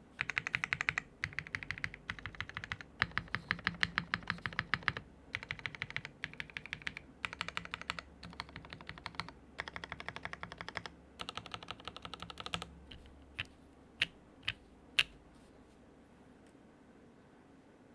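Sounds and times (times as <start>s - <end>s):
mechanical keyboard typing: 0.2s - 15.2s.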